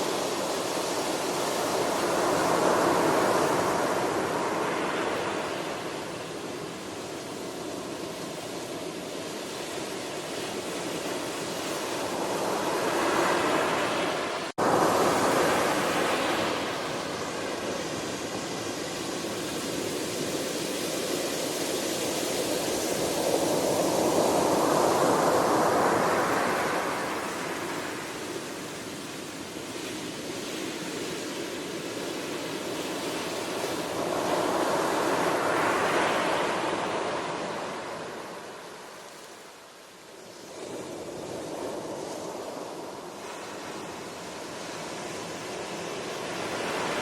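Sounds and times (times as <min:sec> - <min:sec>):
ocean waves breaking on shore: 0:00.0 - 0:47.0.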